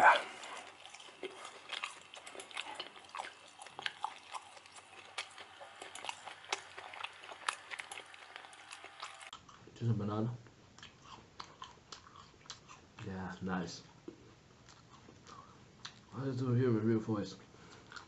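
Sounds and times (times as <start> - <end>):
person chewing food: 0.0 - 9.8, 10.7 - 13.2, 13.8 - 16.1, 17.4 - 18.0.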